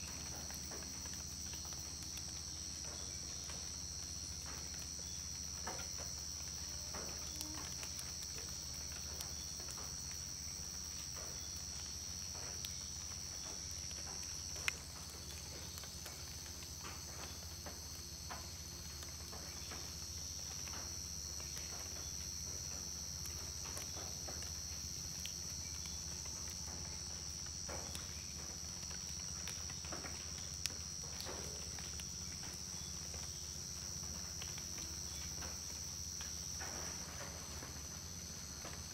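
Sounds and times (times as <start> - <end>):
faint ticks and patters: 0.0 - 38.9.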